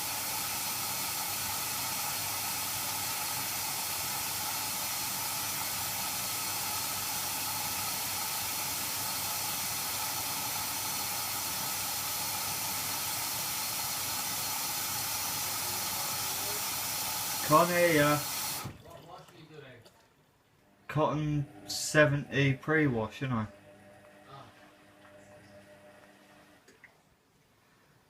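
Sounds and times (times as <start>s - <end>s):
water filling washing machine: 0.0s - 27.0s.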